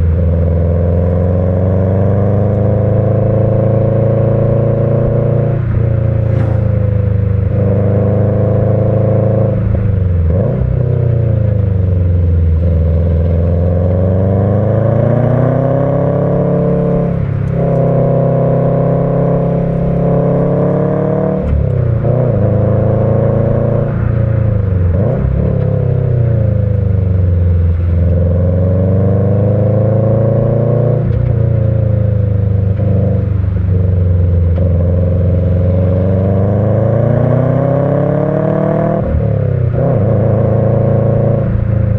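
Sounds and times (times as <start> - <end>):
turbo car engine revving: 0.0 - 41.9.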